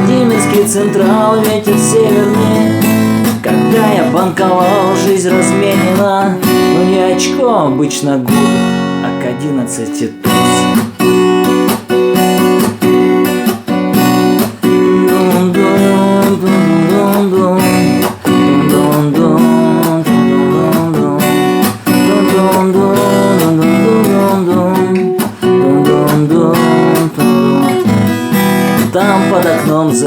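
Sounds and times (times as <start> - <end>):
person singing: 0.0 - 11.7, 14.1 - 30.0
acoustic guitar strumming: 0.0 - 30.0.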